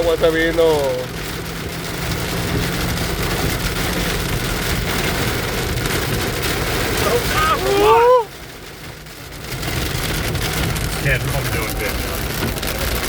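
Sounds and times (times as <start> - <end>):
heavy rain on a vehicle: 0.0 - 13.0
low vehicle hum: 0.0 - 13.0.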